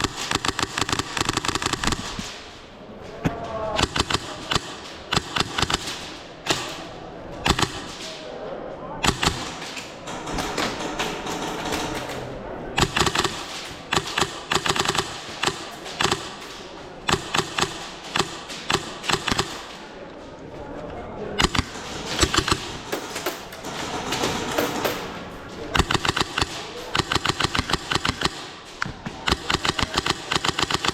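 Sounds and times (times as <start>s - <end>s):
airsoft guns firing: 0.0s - 2.6s, 3.7s - 8.3s, 9.0s - 20.0s, 21.4s - 30.9s.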